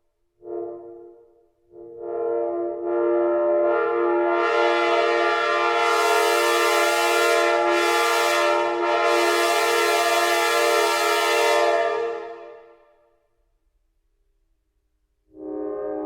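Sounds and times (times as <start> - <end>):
train horn blast: 0.4 - 13.0, 15.3 - 16.0.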